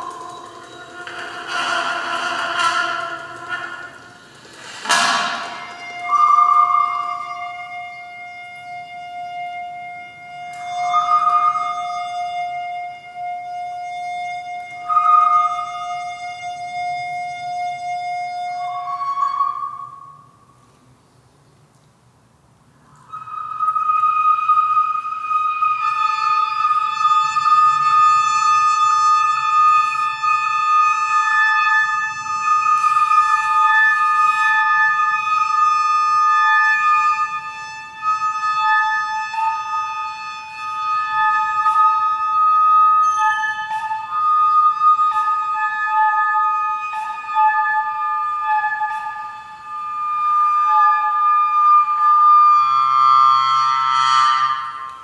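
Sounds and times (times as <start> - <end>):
high flute-like drone tones: 0.0 - 20.7, 22.8 - 55.0.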